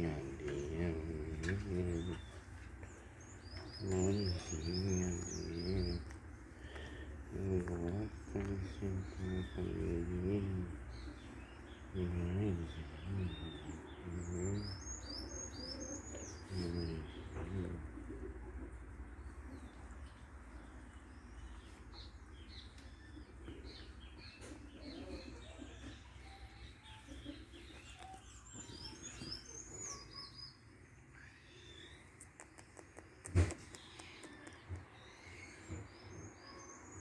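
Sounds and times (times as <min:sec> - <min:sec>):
low cooing calls: 0:00.0 - 0:30.4, 0:31.1 - 0:37.0
small birds chirping: 0:00.0 - 0:37.0.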